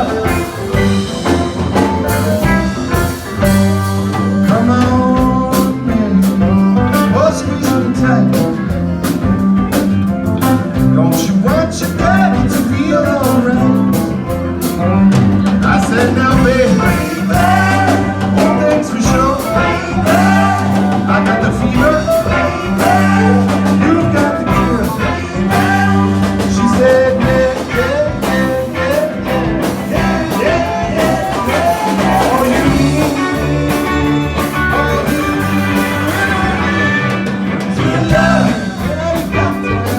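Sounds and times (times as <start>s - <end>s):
blues-rock band playing: 0.0s - 39.9s
lead guitar bending notes: 0.0s - 39.9s.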